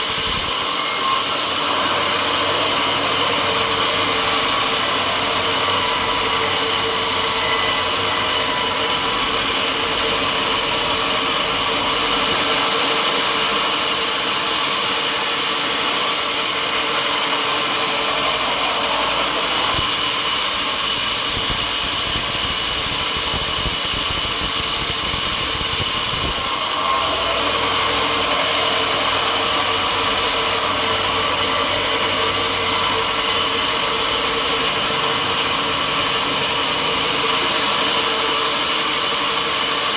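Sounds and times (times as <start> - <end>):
high whine: 0.0 - 14.9, 15.9 - 39.9
sawmill machinery din: 0.0 - 39.9.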